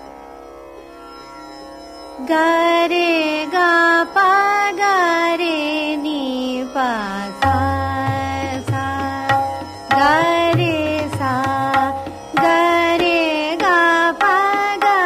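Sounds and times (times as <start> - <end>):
tabla: 2.3 - 15.0.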